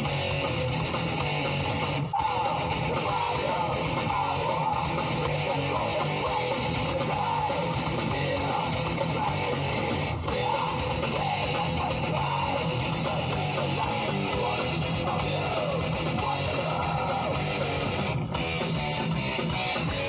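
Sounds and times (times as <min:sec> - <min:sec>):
guitar-led rock music: 0:00.0 - 0:20.0.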